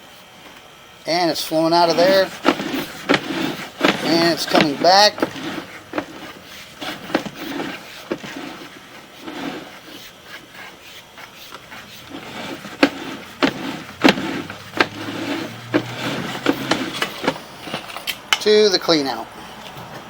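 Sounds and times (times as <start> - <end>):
cable rubbing in a pipe: 1.1 - 19.2.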